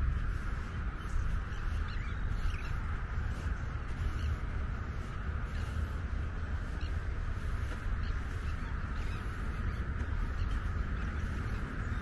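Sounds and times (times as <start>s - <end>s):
many birds in background: 0.0s - 12.0s
terns calling: 0.5s - 12.0s.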